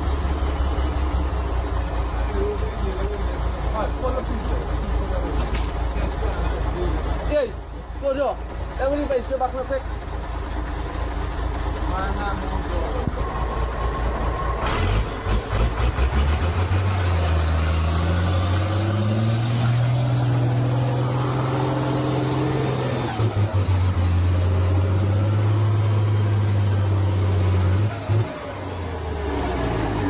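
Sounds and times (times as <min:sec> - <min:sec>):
truck engine pulling under load: 0:00.0 - 0:30.0.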